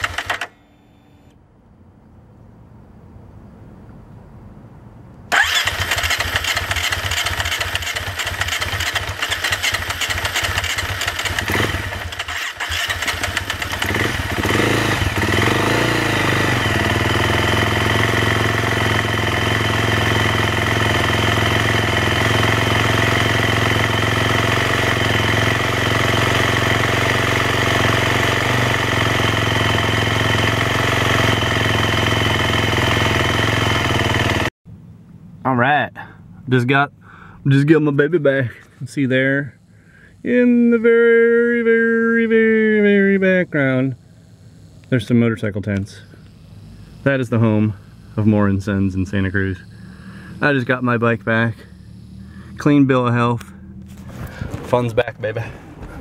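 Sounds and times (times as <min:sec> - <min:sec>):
motorcycle engine starting and running: 0:00.0 - 0:01.4, 0:05.3 - 0:35.4, 0:38.5 - 0:56.0.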